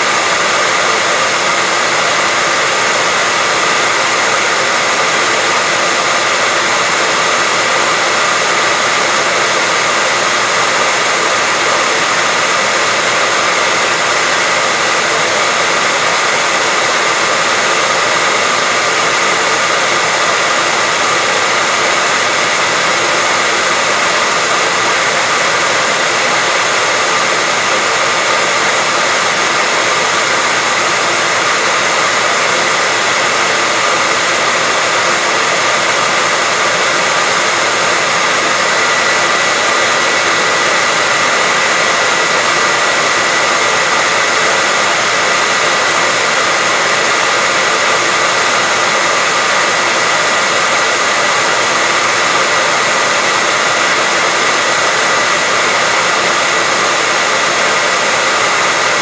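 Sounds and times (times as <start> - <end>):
hair dryer air rush: 0.0 - 59.0.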